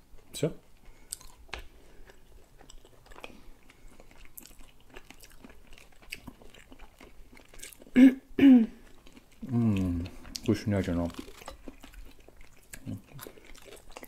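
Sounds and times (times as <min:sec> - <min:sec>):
faint chewing: 0:00.1 - 0:08.0, 0:08.7 - 0:14.0.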